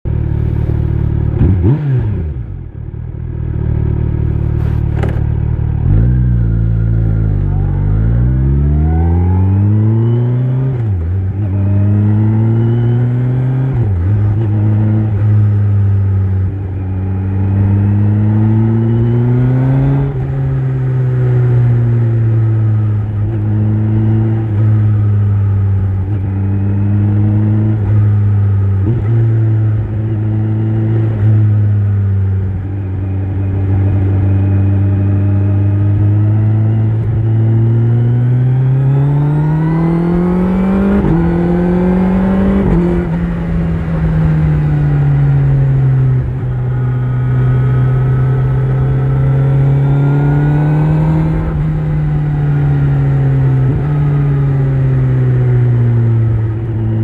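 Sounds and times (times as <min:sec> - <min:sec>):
motorcycle engine accelerating: 0:00.1 - 0:57.0.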